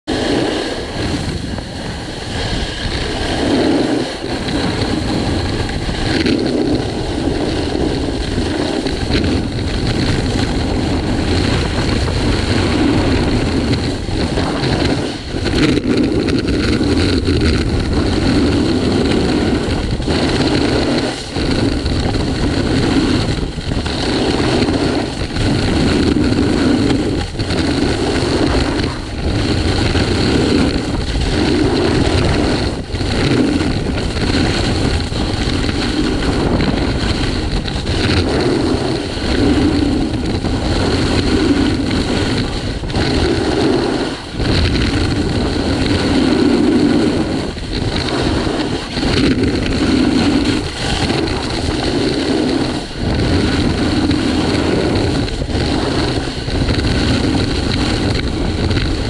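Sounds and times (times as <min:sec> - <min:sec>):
snowboard scraping over snow: 0:00.0 - 0:59.0
wind rushing over microphone: 0:00.0 - 0:59.0.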